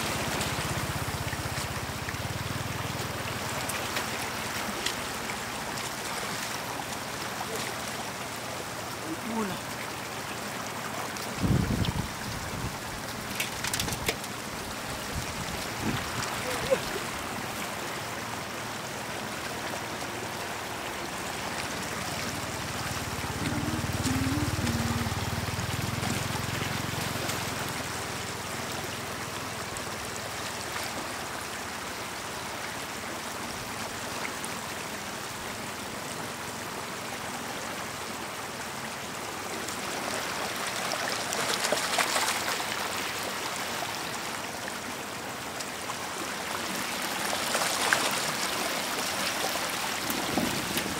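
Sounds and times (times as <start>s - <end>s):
water trickling over stones: 0.0s - 50.9s.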